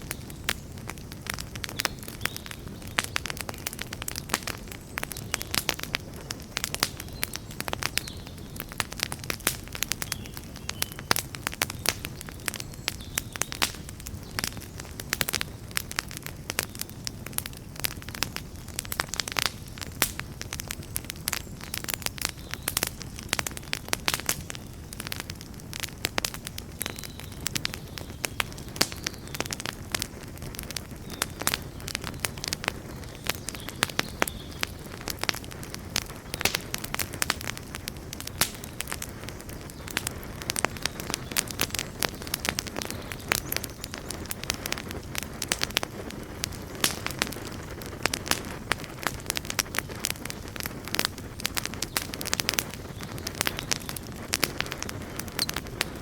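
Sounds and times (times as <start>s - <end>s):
campfire crackles and pops: 0.0s - 56.0s
low rumble of flames: 0.0s - 56.0s.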